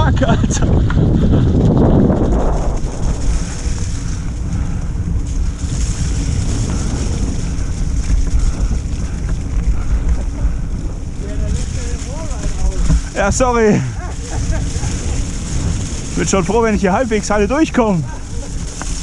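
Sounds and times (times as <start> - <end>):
bike tyres rolling on mud: 0.0 - 19.0
wind buffeting microphone: 0.0 - 19.0.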